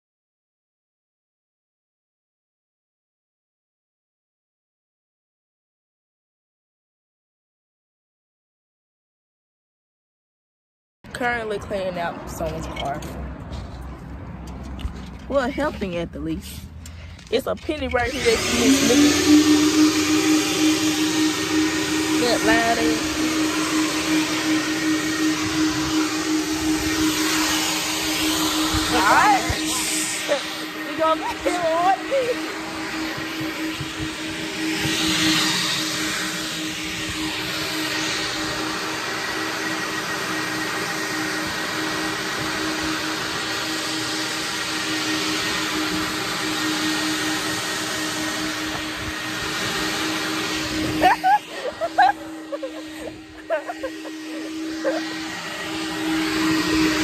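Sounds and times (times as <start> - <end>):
vacuum cleaner running: 11.1 - 57.0.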